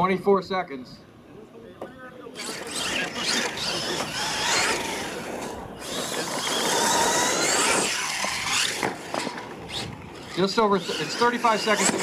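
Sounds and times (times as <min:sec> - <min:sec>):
tyres on dirt: 0:01.8 - 0:12.0
electric motor whining: 0:02.4 - 0:12.0.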